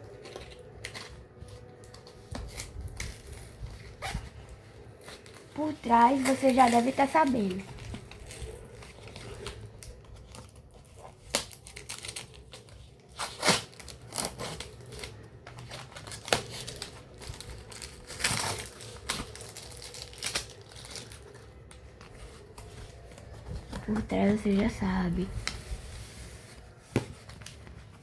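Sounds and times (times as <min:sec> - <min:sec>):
plastic packaging crinkling and tearing: 0:00.0 - 0:28.0.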